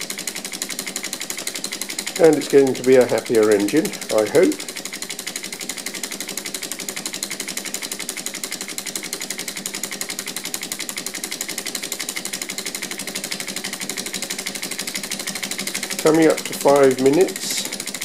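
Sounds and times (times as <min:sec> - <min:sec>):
small engine rapid ticking: 0:00.0 - 0:18.0.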